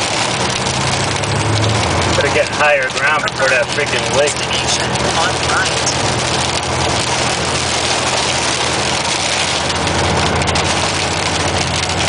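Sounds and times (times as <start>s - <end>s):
engine running: 0.0s - 12.0s
hail and rain on vehicle roof: 0.0s - 12.0s.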